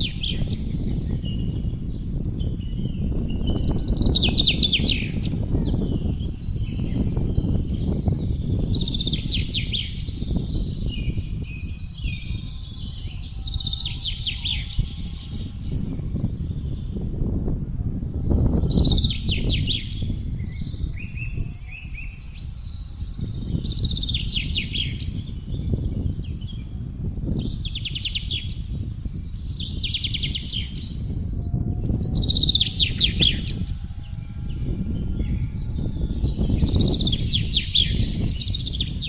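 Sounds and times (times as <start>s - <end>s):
low wind rumble: 0.0s - 39.0s
songbird trilling: 0.0s - 39.0s.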